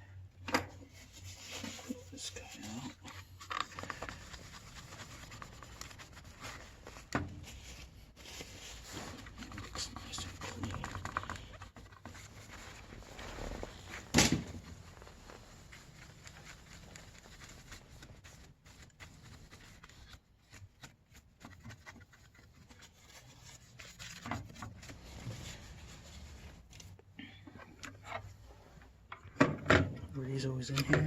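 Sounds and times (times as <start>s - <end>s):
rubbing and scraping computer parts: 0.7s - 27.0s, 27.6s - 31.0s.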